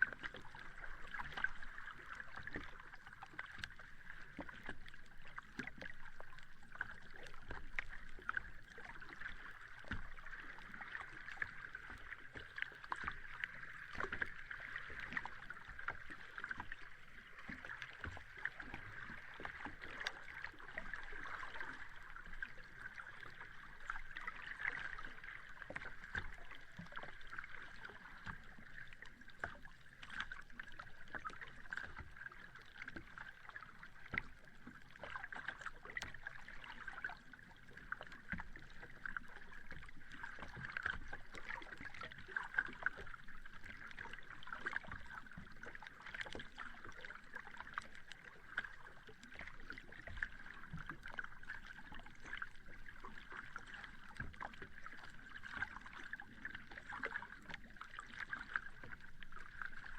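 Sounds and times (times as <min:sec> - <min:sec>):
sea water lapping: 0:00.0 - 0:59.9.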